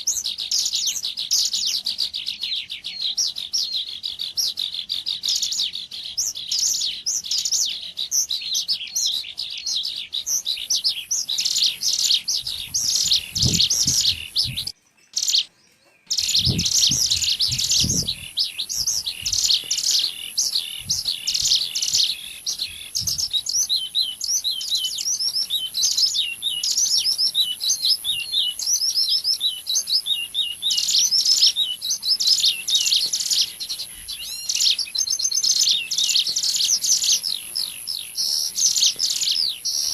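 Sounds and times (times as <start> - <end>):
bird high chirps and trills: 0.0 - 39.9.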